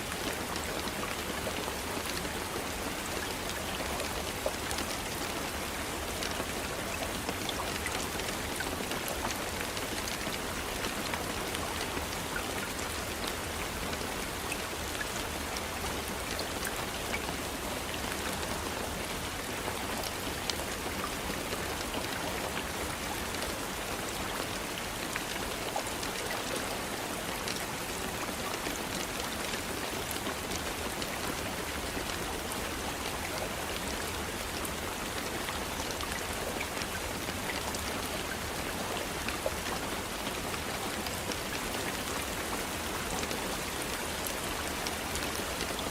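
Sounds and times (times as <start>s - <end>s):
raindrops pattering on a surface: 0.0s - 45.9s
steady rain falling: 0.0s - 45.9s.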